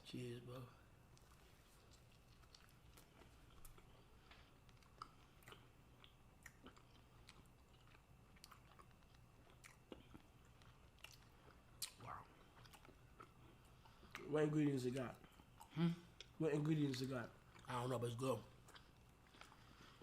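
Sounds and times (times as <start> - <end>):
low steady hum: 0.0 - 20.0
faint chewing crunches: 1.1 - 20.0.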